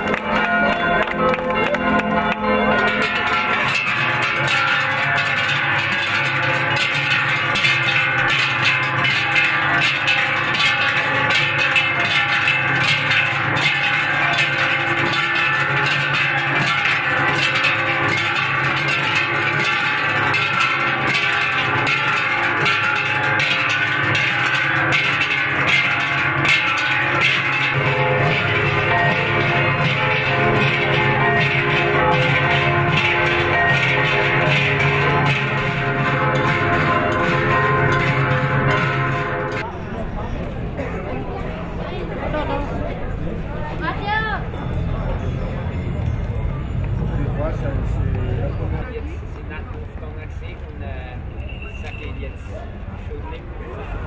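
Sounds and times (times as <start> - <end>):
cowbells clanging: 0.0 - 48.9, 51.3 - 54.0.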